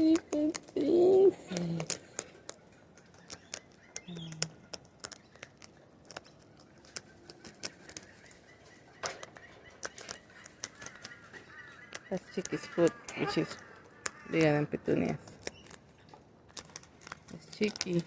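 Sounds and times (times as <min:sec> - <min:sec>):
bird beaks and feet tapping: 0:00.0 - 0:18.0.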